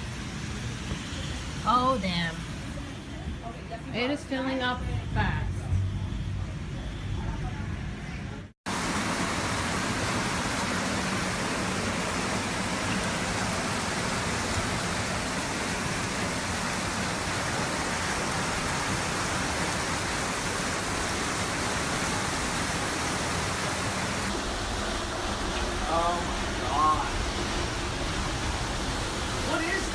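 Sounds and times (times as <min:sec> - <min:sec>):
heavy rain: 0:00.0 - 0:03.7, 0:08.6 - 0:29.9
floodwater rushing through street: 0:00.0 - 0:05.6, 0:07.8 - 0:29.9.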